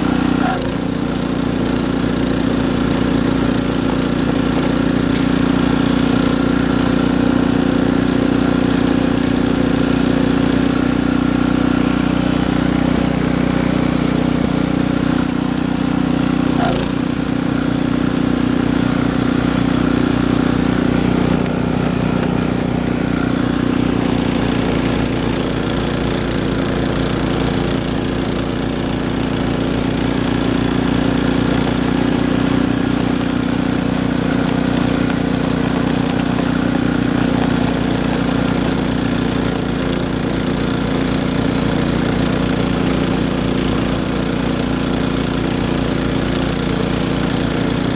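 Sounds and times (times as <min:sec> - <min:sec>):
snowblower engine running: 0:00.0 - 0:47.9.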